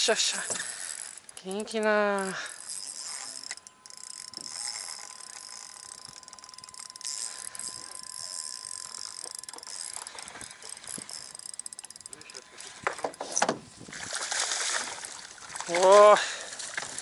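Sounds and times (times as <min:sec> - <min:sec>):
fishing reel whirring and ticking: 0:00.0 - 0:13.6, 0:14.6 - 0:17.0.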